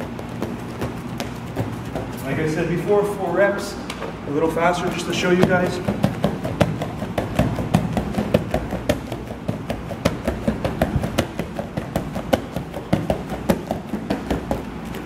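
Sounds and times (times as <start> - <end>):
bare feet patter on a mat: 0.0 - 15.0.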